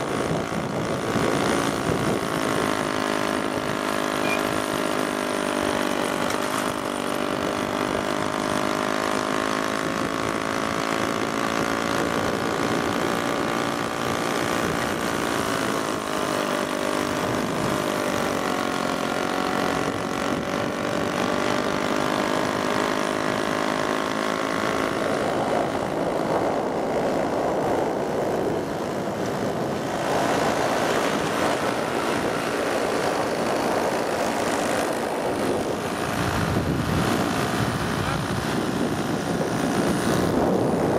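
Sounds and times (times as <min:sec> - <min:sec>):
moped engines running: 0:00.0 - 0:40.9.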